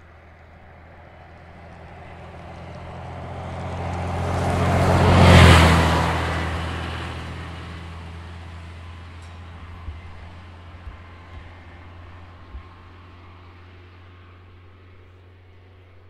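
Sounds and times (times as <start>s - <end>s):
bus engine passing: 0.0s - 16.0s.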